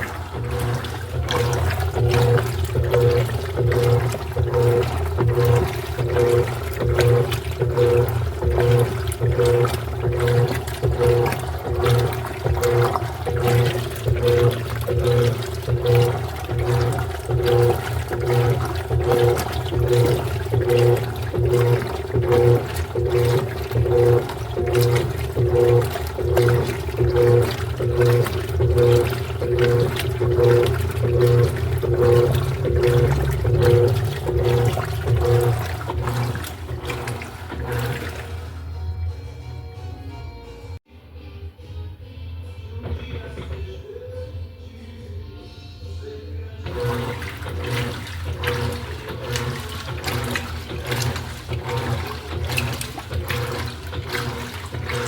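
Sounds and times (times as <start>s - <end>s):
washing machine swishing water: 0.0s - 39.6s, 42.7s - 44.1s, 46.5s - 55.0s.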